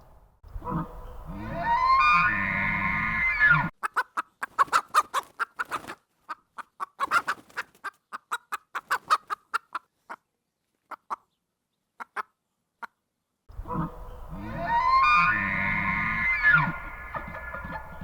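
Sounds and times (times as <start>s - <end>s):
animal clucking calls: 0.5s - 10.2s, 12.0s - 18.0s.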